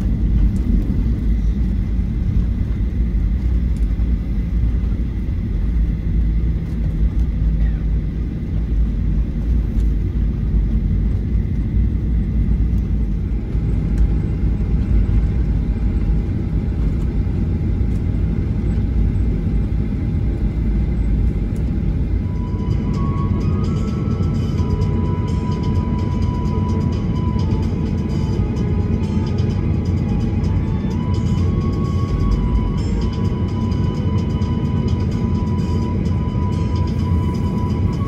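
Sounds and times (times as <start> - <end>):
aircraft cabin rumble: 0.0 - 38.0.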